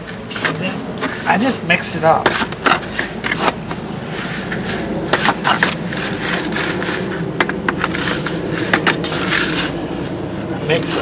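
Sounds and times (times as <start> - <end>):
hand stirring granular fertilizer: 0.0 - 11.0
steady low hum: 0.0 - 11.0.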